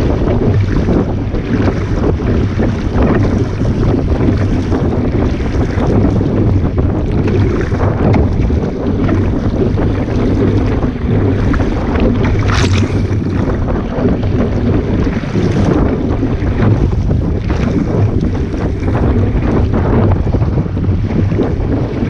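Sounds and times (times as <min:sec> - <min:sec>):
water splashing along hull: 0:00.0 - 0:22.0
wind buffeting microphone: 0:00.0 - 0:22.0.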